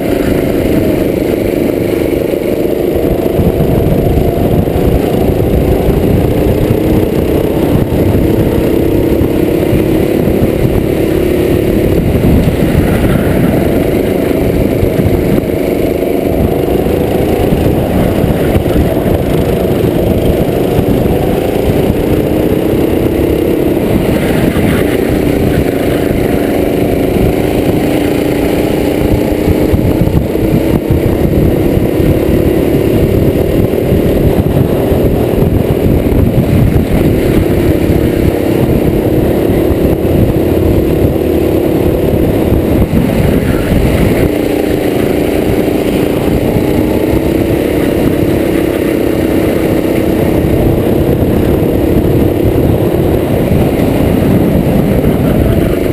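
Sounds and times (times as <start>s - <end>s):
racing kart engine revving: 0.0s - 55.9s.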